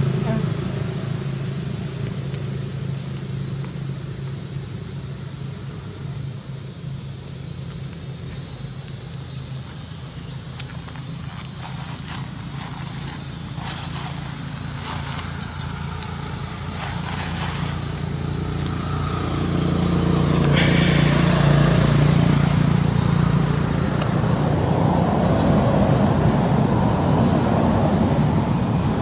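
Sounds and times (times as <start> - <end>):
passing traffic engine hum: 0.0 - 29.0.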